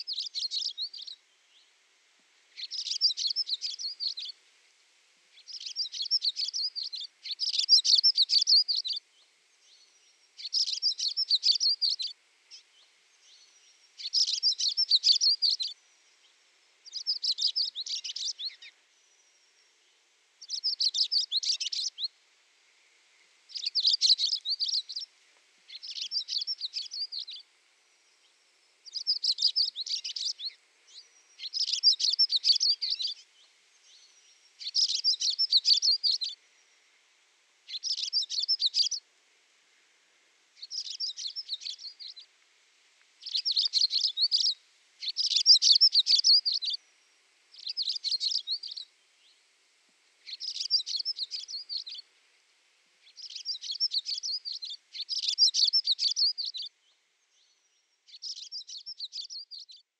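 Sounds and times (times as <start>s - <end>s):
songbird singing: 0.0s - 4.4s, 5.3s - 42.4s, 43.2s - 49.5s, 50.1s - 52.4s, 53.0s - 59.9s.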